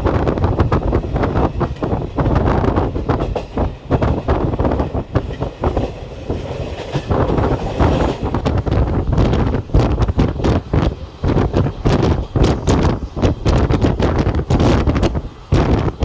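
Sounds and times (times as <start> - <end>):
train rumbling at speed: 0.0 - 16.0.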